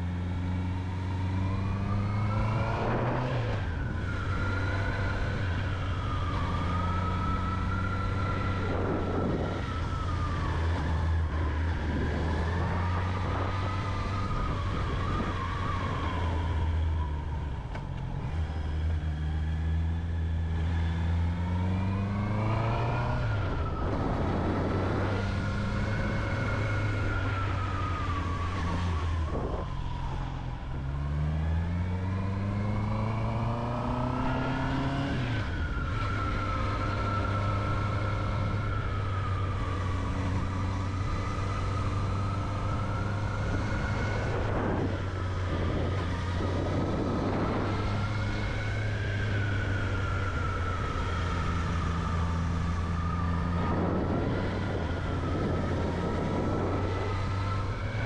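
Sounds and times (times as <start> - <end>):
motorcycle engine accelerating: 0.0 - 58.0
wind noise: 1.0 - 19.5, 20.2 - 58.0.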